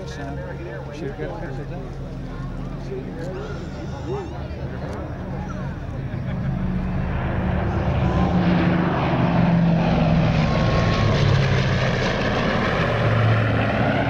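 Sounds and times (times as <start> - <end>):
piston aircraft engines droning: 0.0 - 14.0.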